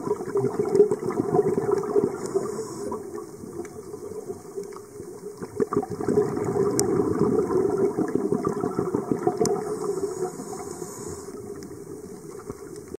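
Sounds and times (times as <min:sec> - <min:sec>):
scuba bubbles gurgling underwater: 0:00.0 - 0:13.0.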